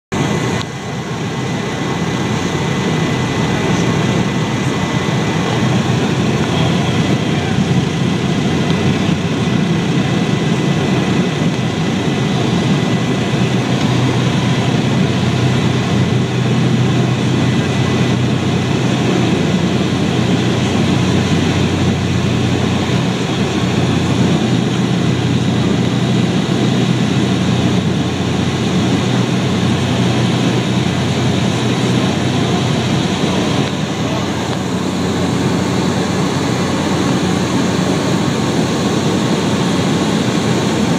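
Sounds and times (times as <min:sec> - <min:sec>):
propeller plane engine drone: 0:00.1 - 0:40.9.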